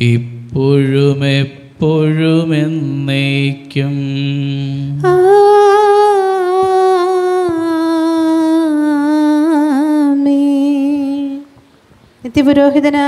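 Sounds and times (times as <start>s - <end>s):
solo voice singing a chant: 0.0s - 11.4s.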